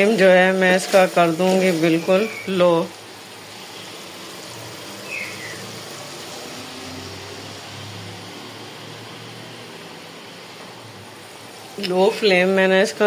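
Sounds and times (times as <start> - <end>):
food frying with steady hiss: 0.0 - 13.0.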